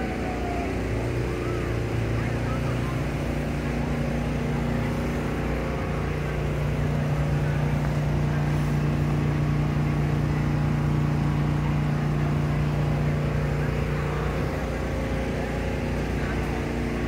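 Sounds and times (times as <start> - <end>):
city street noise: 0.0 - 17.0
low motor hum: 0.0 - 17.0.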